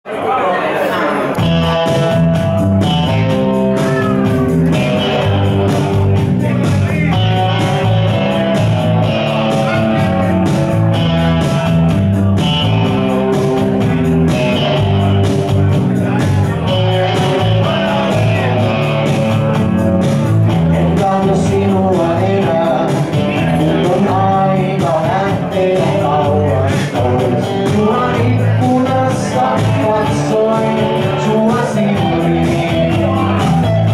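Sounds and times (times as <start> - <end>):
electric bass: 1.3 - 33.9
electric guitar: 1.3 - 33.9.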